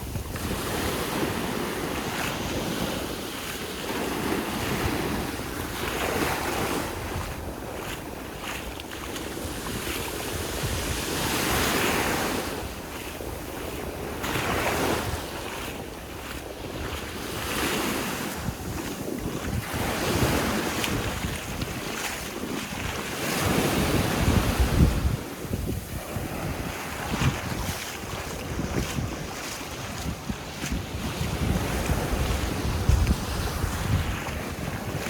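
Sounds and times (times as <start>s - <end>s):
wind buffeting microphone: 0.0s - 3.2s, 3.9s - 35.0s
sea waves breaking on beach: 0.0s - 35.0s.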